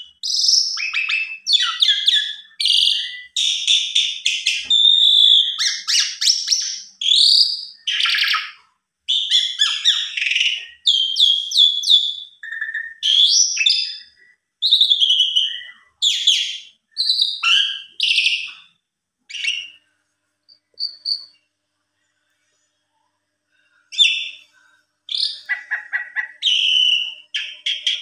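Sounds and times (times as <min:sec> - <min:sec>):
starling singing: 0:00.0 - 0:18.7, 0:19.3 - 0:19.8, 0:20.5 - 0:21.4, 0:23.9 - 0:24.4, 0:25.1 - 0:28.0.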